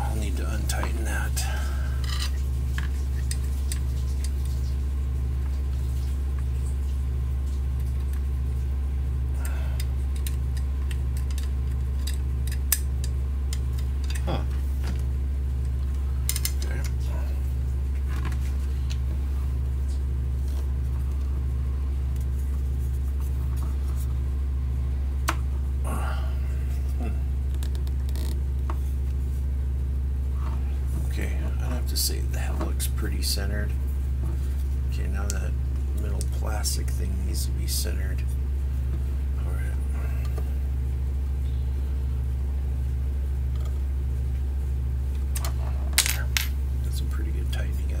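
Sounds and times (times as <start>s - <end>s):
low electrical hum: 0.0s - 48.0s.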